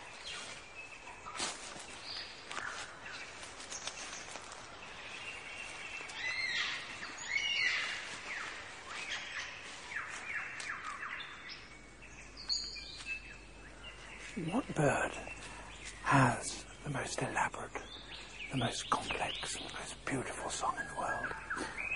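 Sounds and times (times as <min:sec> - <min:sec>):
birds chirping and whistling: 0:00.0 - 0:21.9.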